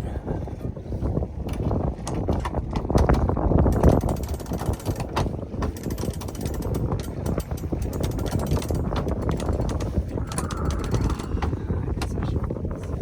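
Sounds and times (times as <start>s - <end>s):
wind rumbling on microphone: 0.0s - 13.0s
sharp clicks and rattles: 1.5s - 12.2s.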